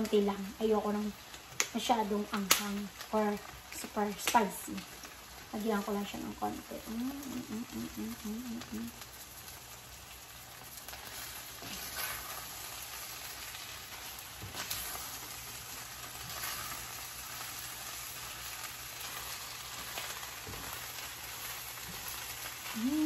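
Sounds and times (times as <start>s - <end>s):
meat sizzling in a frying pan: 0.0s - 23.0s.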